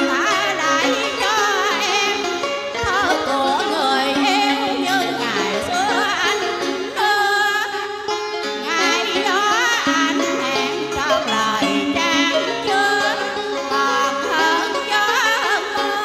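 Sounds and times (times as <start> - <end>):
instrumental backing music: 0.0 - 16.0
woman singing into a microphone: 0.0 - 16.0.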